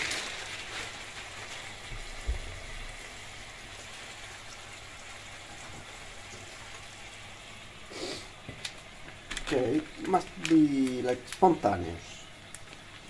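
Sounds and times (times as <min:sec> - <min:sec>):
onion sizzling in butter: 0:00.0 - 0:13.0.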